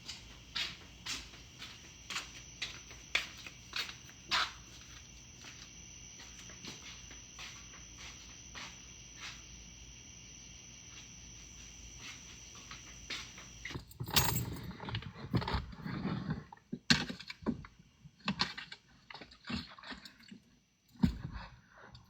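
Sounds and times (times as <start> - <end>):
faint hum with high whine: 0.0 - 22.0.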